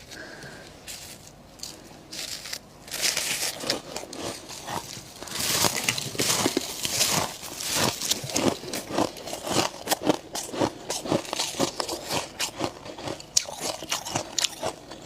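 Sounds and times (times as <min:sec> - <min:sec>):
frost and ice crunching: 0:00.0 - 0:15.0.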